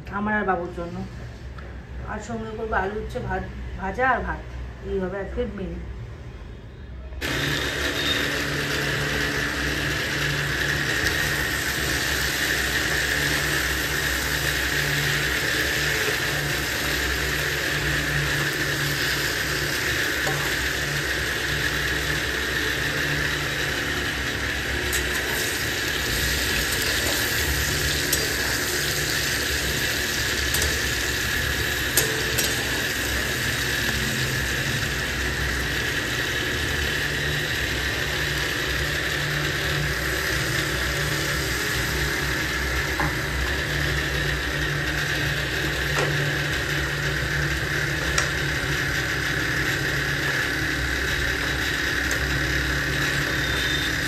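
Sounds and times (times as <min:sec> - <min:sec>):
food sizzling in a pan: 0:07.2 - 0:50.8.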